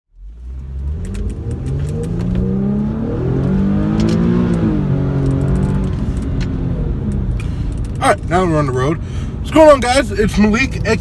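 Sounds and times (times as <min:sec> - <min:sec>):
car engine accelerating: 0:00.2 - 0:11.0.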